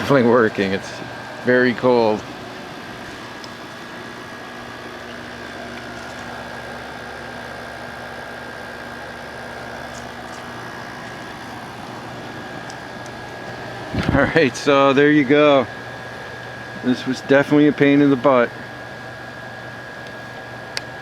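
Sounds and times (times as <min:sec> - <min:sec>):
air conditioner fan rushing: 0:00.0 - 0:21.0
compressor low hum: 0:00.0 - 0:21.0
faint high whine: 0:00.0 - 0:21.0.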